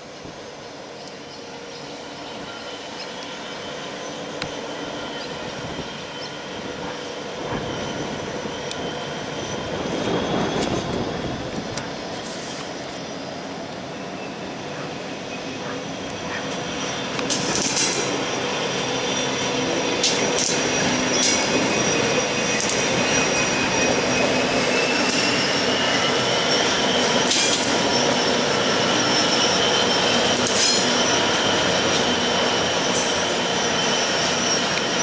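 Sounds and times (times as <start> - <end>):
diesel locomotives running past: 0.0 - 35.0.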